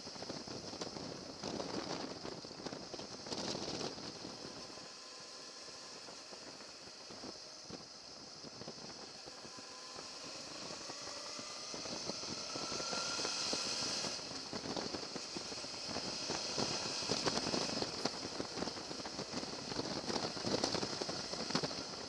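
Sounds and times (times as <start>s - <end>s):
faint rising whine: 0.0s - 22.0s
motorcycle riding hiss: 0.0s - 22.0s.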